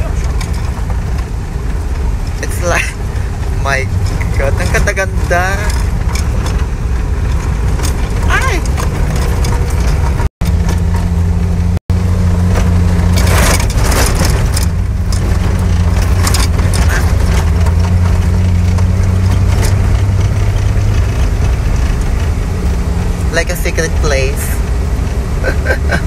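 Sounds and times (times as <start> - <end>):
tyres on gravel crunching: 0.0 - 23.3
vehicle engine droning: 0.0 - 26.0.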